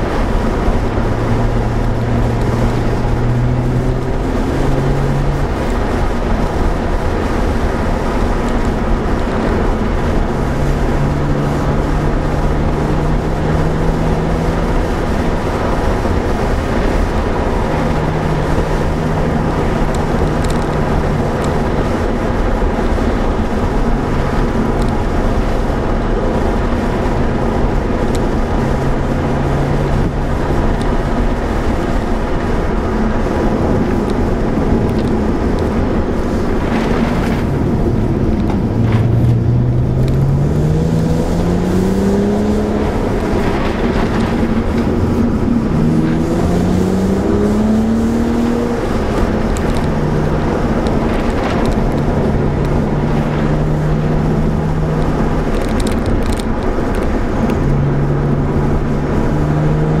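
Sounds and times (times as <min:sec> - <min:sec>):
car engine accelerating: 0:00.0 - 1:00.0
road noise: 0:00.0 - 1:00.0.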